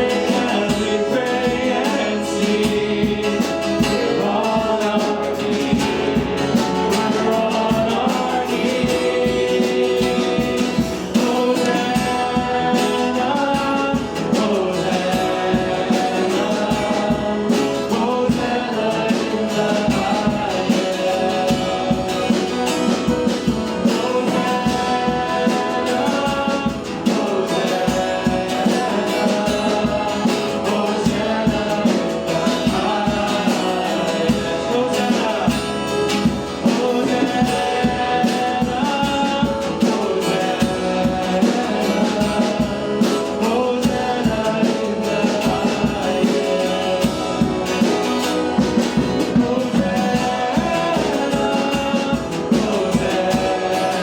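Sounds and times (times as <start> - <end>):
instrumental accompaniment with steady beat: 0.0 - 54.0
voices singing: 0.0 - 54.0.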